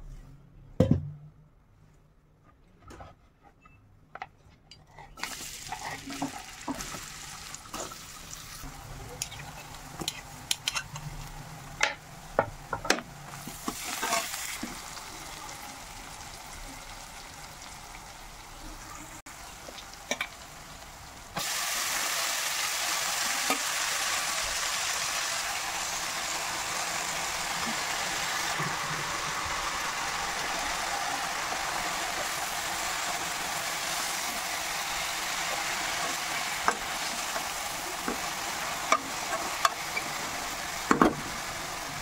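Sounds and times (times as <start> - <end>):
leaves sizzling in hot oil: 5.2 - 12.5, 13.2 - 42.0.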